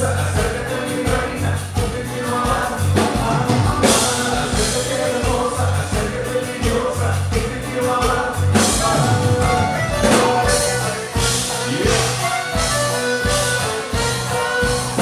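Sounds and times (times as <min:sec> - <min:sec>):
bass: 0:00.0 - 0:15.0
drum kit steady beat: 0:00.0 - 0:15.0
keyboard: 0:00.0 - 0:15.0
live band playing amplified: 0:00.0 - 0:15.0.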